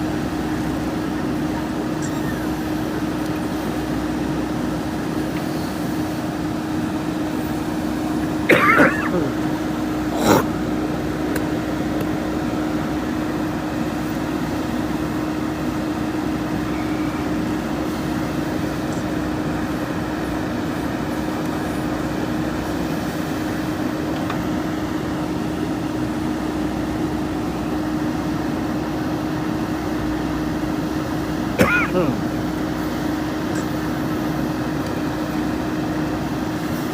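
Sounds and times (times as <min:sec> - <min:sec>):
diesel engine humming steadily: 0:00.0 - 0:36.9.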